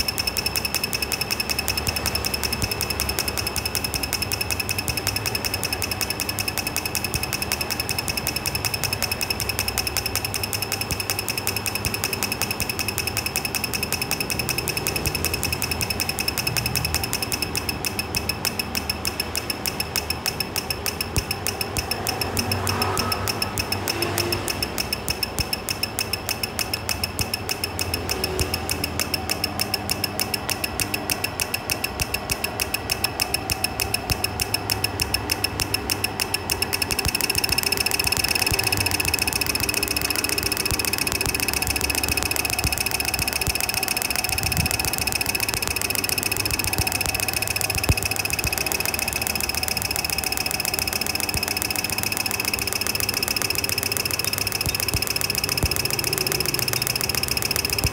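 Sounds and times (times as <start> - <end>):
car engine ticking: 0.0 - 57.9.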